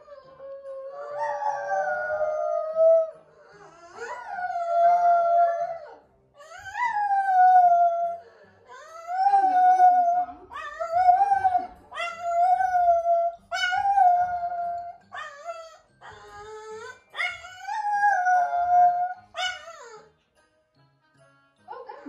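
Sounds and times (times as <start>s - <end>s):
dog howling: 0.0s - 20.1s.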